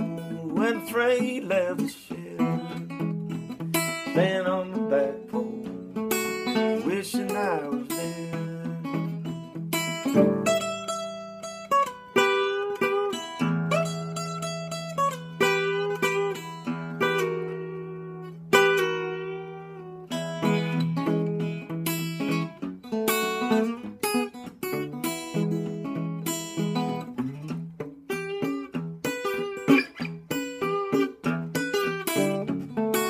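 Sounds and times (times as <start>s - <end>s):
fingerstyle acoustic guitar blues: 0.0s - 33.0s.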